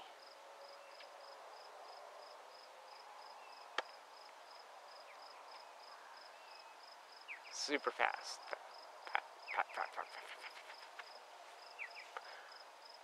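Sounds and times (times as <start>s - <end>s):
cricket chirping: 0.0s - 13.0s
faint outdoor hiss: 0.0s - 13.0s.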